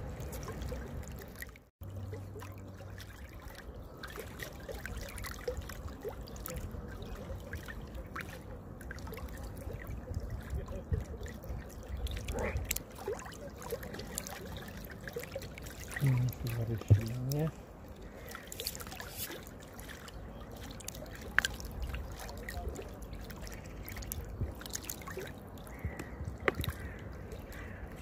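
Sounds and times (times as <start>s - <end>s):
small waves lapping and splashing: 0.0s - 28.0s.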